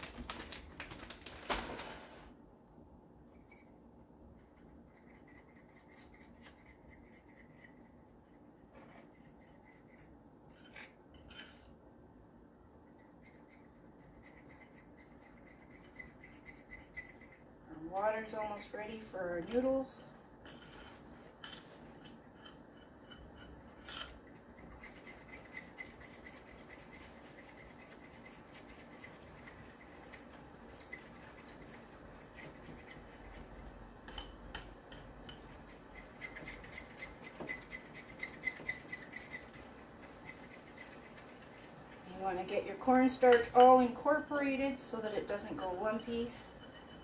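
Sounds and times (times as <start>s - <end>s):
utensil stirring and scraping: 3.3s - 11.8s, 12.7s - 47.0s.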